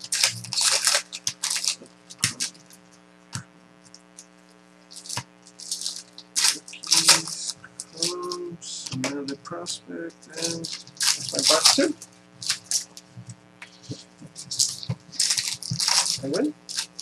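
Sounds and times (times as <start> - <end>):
card wrappers crinkling: 0.0 - 3.0, 3.8 - 17.0.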